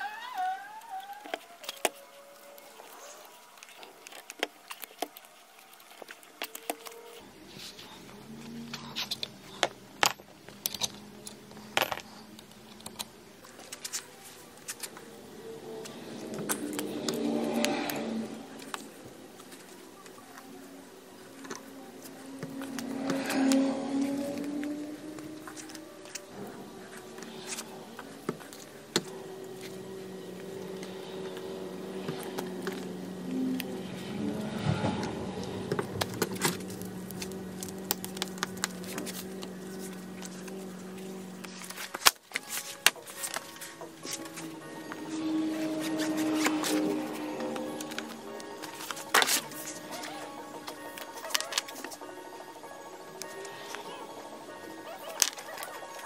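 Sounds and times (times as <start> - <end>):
steady low hum: 2.0 - 54.9.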